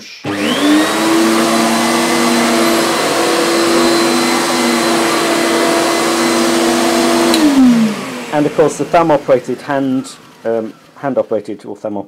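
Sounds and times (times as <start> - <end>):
vacuum cleaner motor whining: 0.2 - 11.6.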